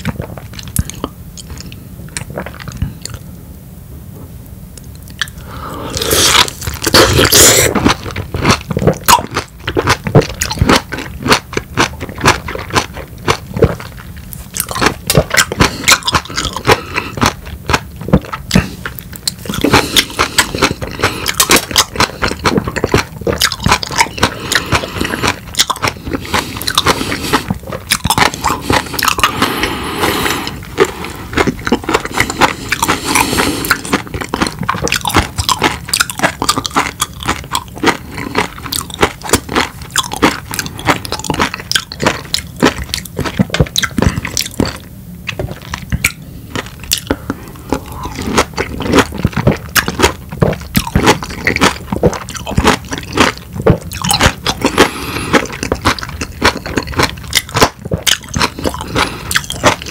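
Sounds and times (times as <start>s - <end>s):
biting and chewing lemon: 5.0s - 59.9s.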